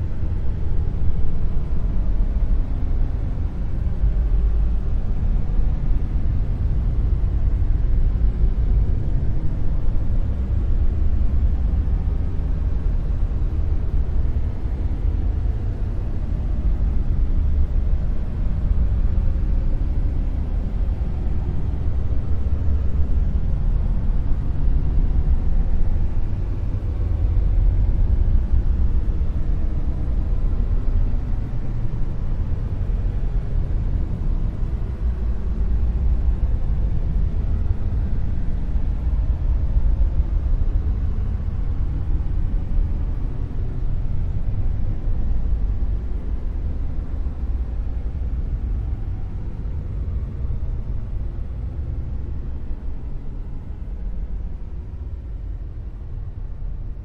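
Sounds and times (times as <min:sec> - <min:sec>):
deep noise rumble: 0:00.0 - 0:57.0.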